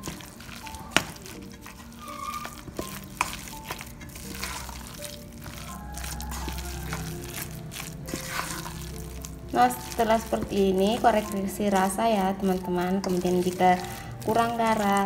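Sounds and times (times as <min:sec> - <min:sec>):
background music: 0:00.0 - 0:15.0
batter being stirred squelchily: 0:00.0 - 0:15.0.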